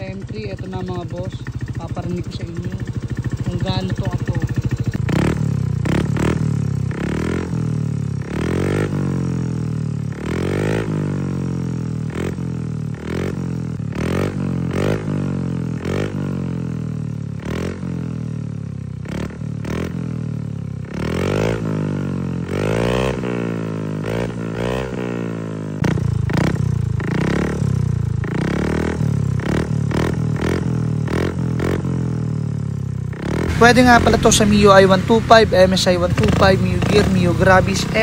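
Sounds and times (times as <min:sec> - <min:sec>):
scooter engine revving: 0:00.0 - 0:38.0.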